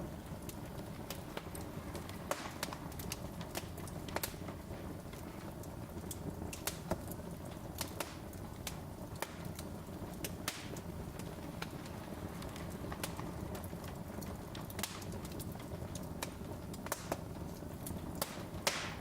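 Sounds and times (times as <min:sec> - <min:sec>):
low rumble of burning logs: 0:00.0 - 0:19.0
wood fire crackling and popping: 0:00.0 - 0:19.0.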